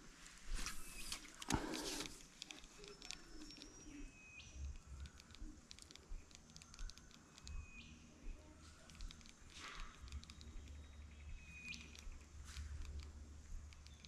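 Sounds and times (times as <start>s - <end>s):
faint clicks: 0.6s - 14.0s.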